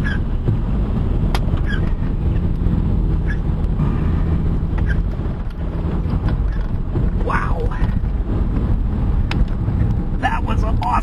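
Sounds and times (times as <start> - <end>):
wind buffeting a car: 0.0 - 11.0
windshield wipers swishing: 0.0 - 11.0.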